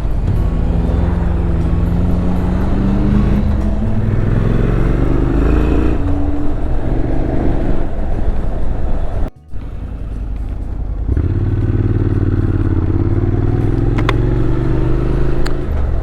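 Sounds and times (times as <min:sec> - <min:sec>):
motorcycle engine accelerating: 0:00.0 - 0:16.0
rushing wind: 0:00.0 - 0:16.0.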